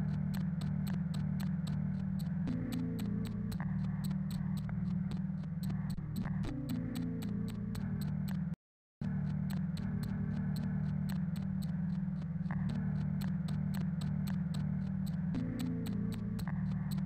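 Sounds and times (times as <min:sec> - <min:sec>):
electronic drone hum: 0:00.0 - 0:17.0
regular ticking clicks: 0:00.0 - 0:17.0.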